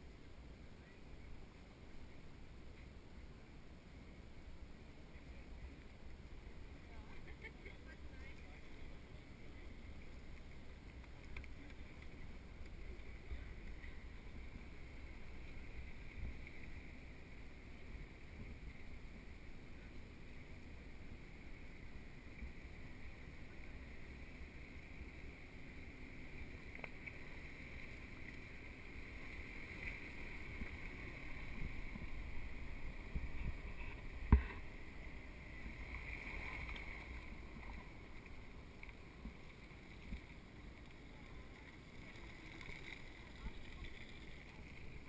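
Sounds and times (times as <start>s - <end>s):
low background rumble: 0.0s - 45.0s.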